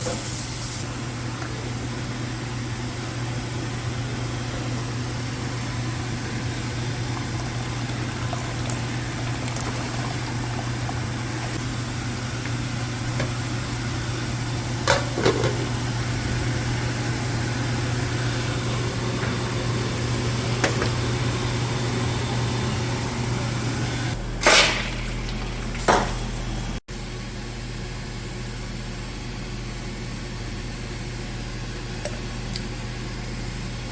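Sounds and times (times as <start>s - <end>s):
low kitchen hum: 0.0s - 33.9s.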